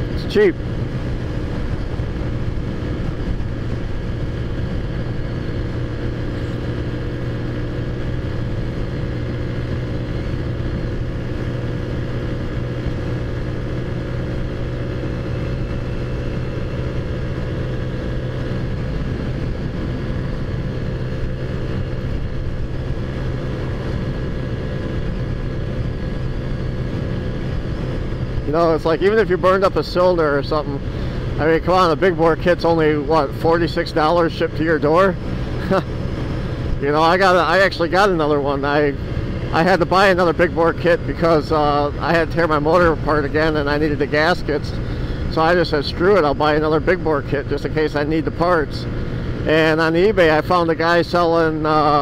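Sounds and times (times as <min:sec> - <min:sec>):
scooter engine running: 0:00.0 - 0:52.0
wind rumbling on microphone: 0:00.0 - 0:52.0.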